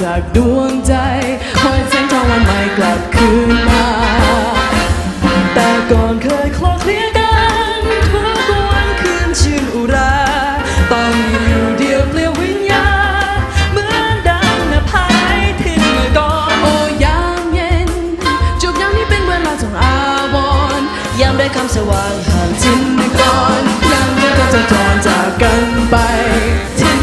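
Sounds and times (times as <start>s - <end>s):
jazz band playing: 0.0s - 27.0s
horn lines with vibrato: 1.0s - 27.0s.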